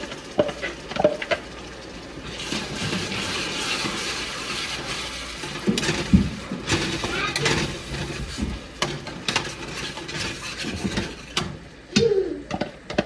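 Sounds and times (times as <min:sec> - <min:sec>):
tomatoes sizzling in hot oil: 0:00.0 - 0:11.9.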